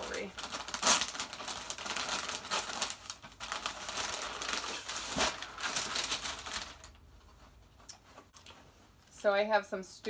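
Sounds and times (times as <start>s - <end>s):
packing paper rustling: 0.0s - 9.0s.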